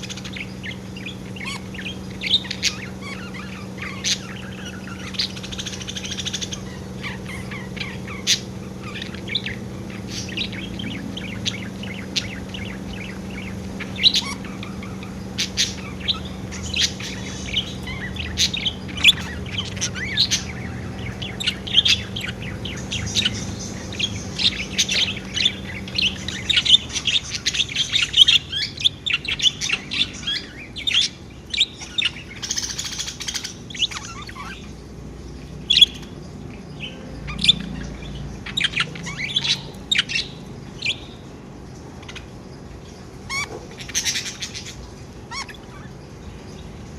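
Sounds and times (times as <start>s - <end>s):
budgerigars chirping and warbling: 0.0s - 46.9s
steady low hum: 0.0s - 46.9s.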